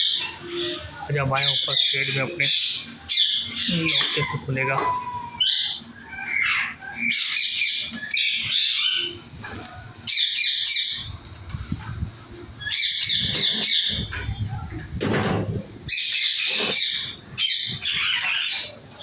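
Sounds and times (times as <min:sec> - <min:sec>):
parrots squawking: 0:00.0 - 0:11.2, 0:12.3 - 0:14.8, 0:15.8 - 0:19.0.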